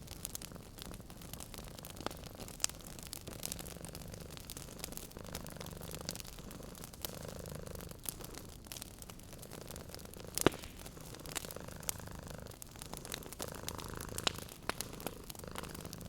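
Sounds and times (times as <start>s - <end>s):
cat purring: 0.0s - 16.0s
fire popping: 0.0s - 16.0s
wood fire crackling: 0.0s - 16.0s.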